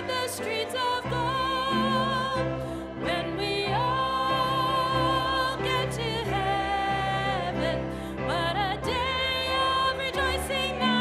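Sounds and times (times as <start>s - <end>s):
woman singing: 0.0s - 11.0s.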